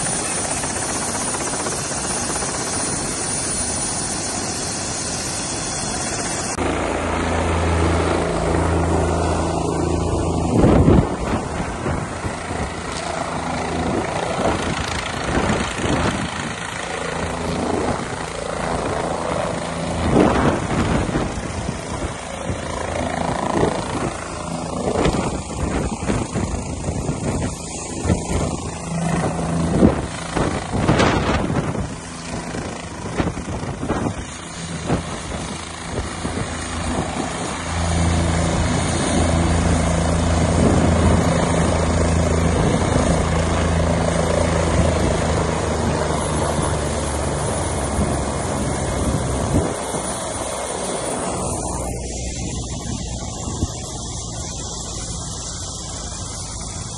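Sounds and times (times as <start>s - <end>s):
helicopter engine and rotor drone: 0.0s - 56.9s.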